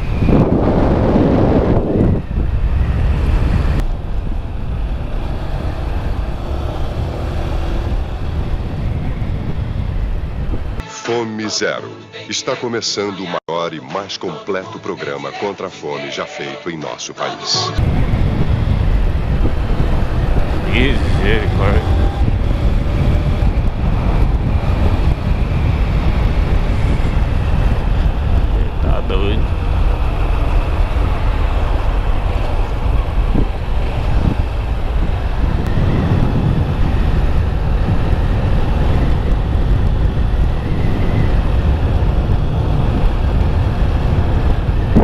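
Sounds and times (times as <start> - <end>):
wind rumble on microphone: 0.0 - 10.8, 17.8 - 45.0.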